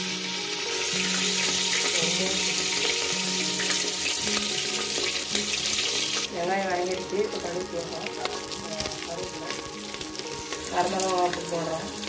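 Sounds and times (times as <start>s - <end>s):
shallots sizzling in hot oil: 0.0s - 12.0s.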